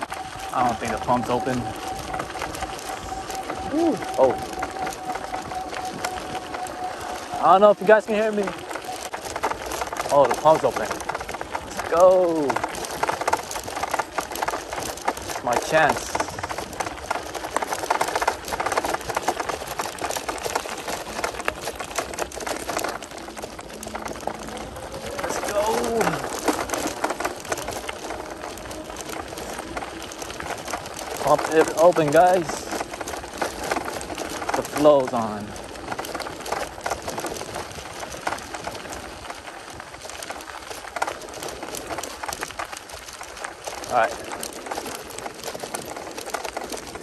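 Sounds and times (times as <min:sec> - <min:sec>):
bike rattling: 0:00.0 - 0:47.0
tyres crackling on gravel: 0:00.0 - 0:47.0.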